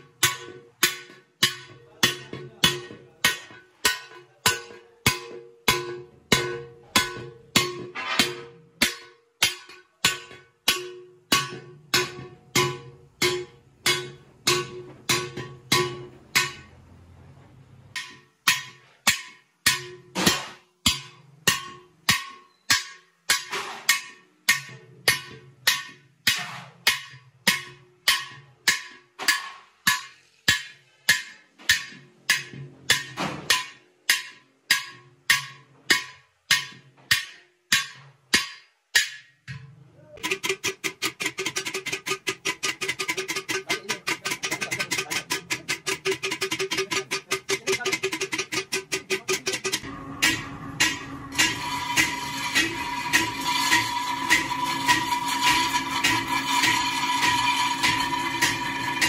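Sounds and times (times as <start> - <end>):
hammer striking metal pot: 0.0 - 16.8, 17.9 - 59.0.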